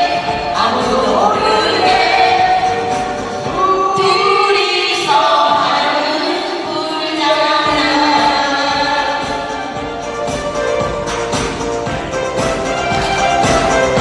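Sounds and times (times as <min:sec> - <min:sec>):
amplified musical accompaniment: 0:00.0 - 0:04.9, 0:07.6 - 0:14.0
women singing pop song: 0:00.0 - 0:14.0.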